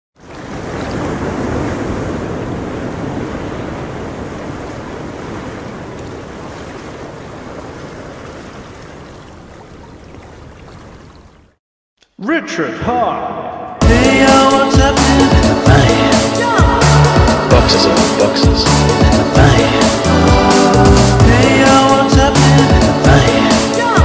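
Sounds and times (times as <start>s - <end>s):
ocean surf rushing: 0.2s - 10.8s, 13.9s - 24.0s.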